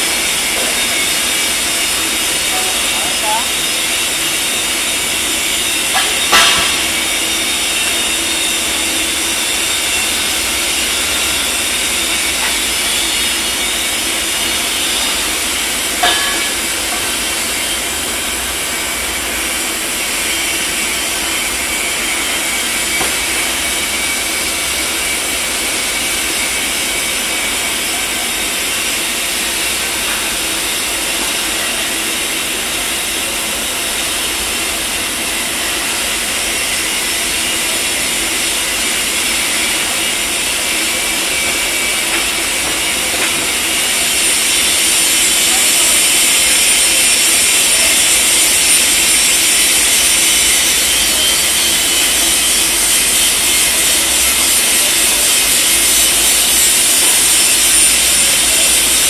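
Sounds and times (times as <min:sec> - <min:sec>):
machinery hiss: 0:00.0 - 0:59.0.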